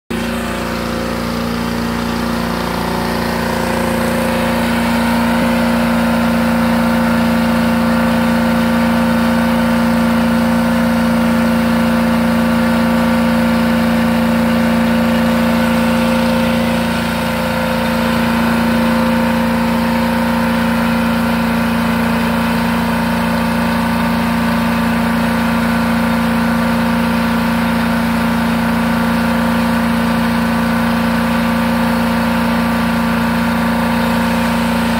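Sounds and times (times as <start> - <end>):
carpet cleaning machine drone: 0.0 - 34.9.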